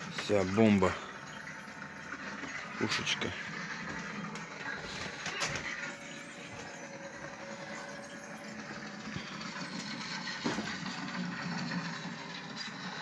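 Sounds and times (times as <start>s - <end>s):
mechanical background noise: 0.0s - 13.0s.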